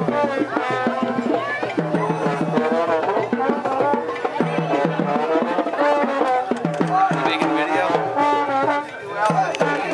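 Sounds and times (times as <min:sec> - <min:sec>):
live music with drumming: 0:00.0 - 0:09.9.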